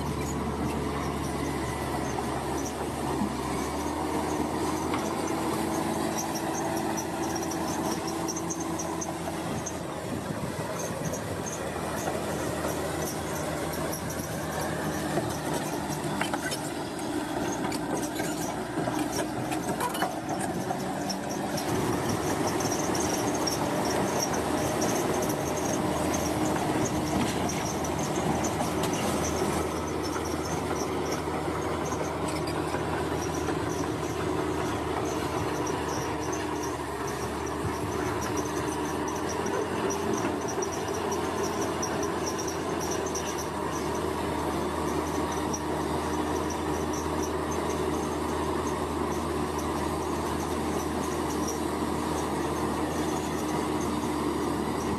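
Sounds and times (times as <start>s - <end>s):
bulldozer engine drone: 0.0s - 54.9s.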